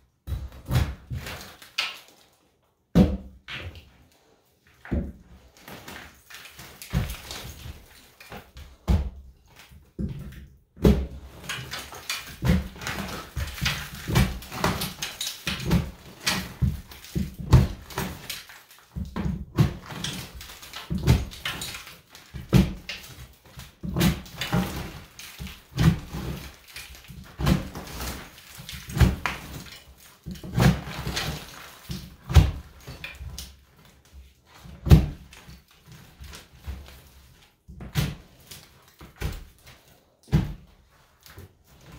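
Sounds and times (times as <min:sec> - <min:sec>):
stucco knocking and cracking: 0:00.1 - 0:41.9.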